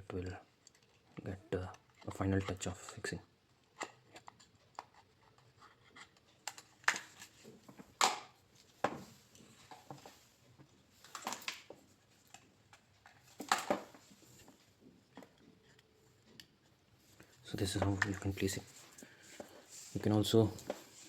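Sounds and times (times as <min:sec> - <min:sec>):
plastic parts scraping and rustling: 0:00.2 - 0:21.0.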